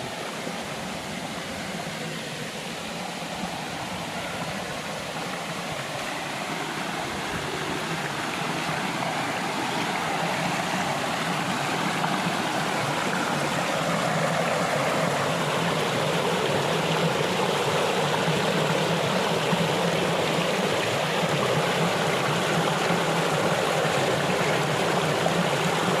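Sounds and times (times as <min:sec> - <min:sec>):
river water rushing over rocks: 0:00.0 - 0:26.0.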